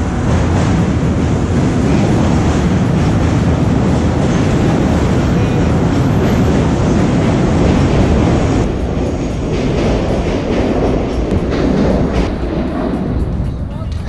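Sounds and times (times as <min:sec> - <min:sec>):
loud low rumbling: 0:00.0 - 0:14.0.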